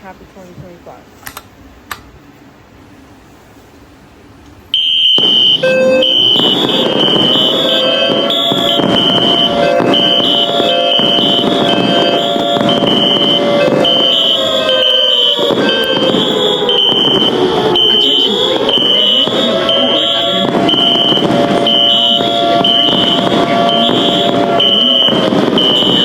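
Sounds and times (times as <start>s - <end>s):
low steady alarm tone: 4.7s - 26.0s
high-pitched repeating beep: 4.8s - 26.0s.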